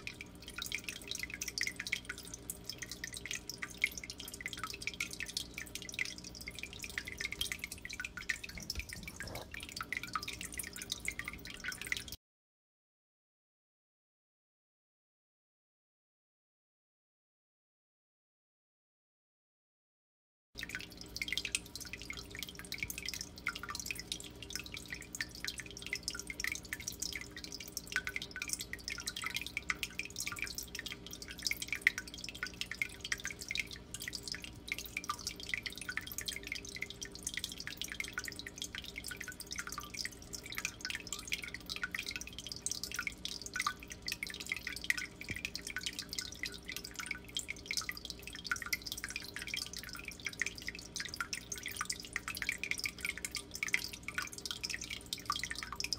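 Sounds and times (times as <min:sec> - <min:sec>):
low steady hum: 0:00.0 - 0:12.2, 0:20.6 - 0:55.9
water trickling and dripping: 0:00.0 - 0:12.2, 0:20.6 - 0:55.9.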